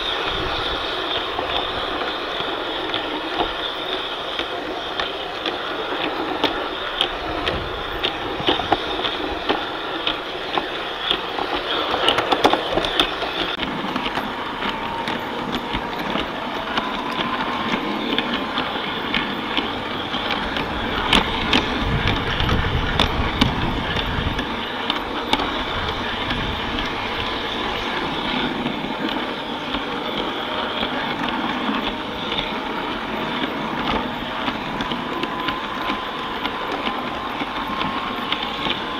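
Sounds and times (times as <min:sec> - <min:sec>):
model train wheels rolling: 0:00.0 - 0:38.9
sharp track clicks: 0:00.0 - 0:38.9.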